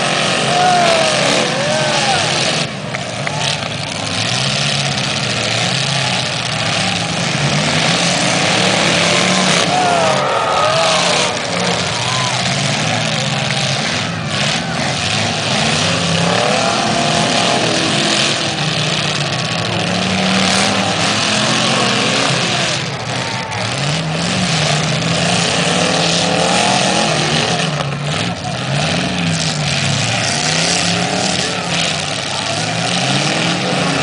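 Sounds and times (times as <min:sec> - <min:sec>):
car engines revving hard: 0:00.0 - 0:34.0.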